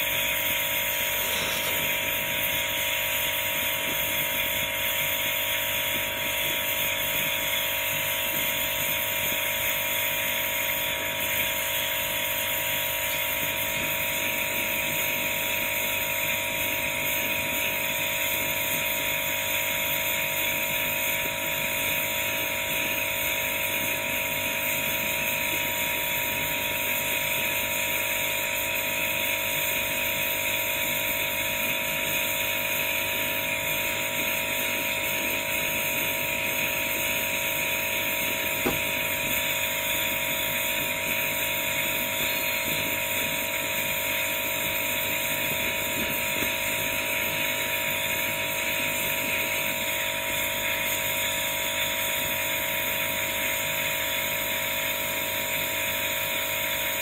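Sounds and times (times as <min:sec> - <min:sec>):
gas torch hissing: 0:00.0 - 0:57.0.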